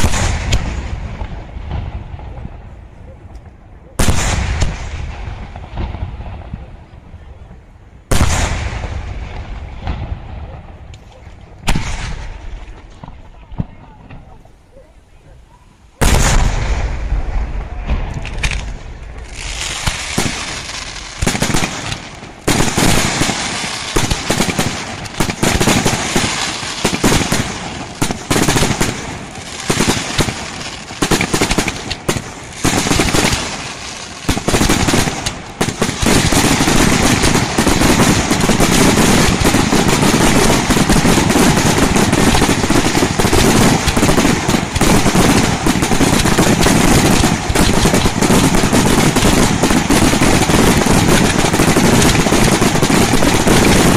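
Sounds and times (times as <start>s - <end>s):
fireworks bangs and crackle: 0.0s - 14.6s, 16.0s - 53.9s.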